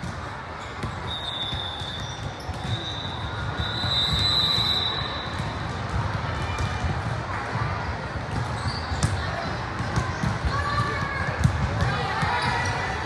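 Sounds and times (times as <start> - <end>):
crowd hubbub: 0.0 - 13.0.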